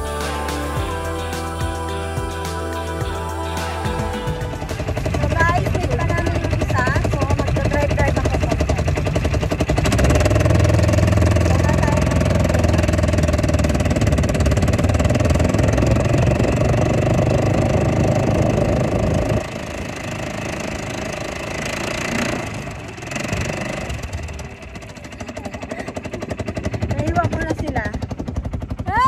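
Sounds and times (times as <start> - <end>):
quad bike engine running: 0.0 - 29.0.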